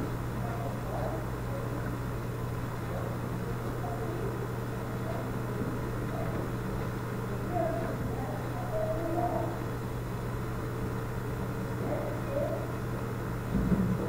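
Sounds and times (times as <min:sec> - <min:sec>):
room noise hiss: 0:00.0 - 0:14.0.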